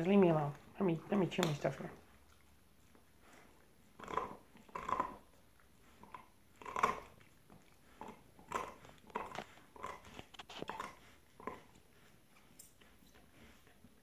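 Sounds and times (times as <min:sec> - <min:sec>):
dogs chewing crunching bites: 0:00.0 - 0:14.0.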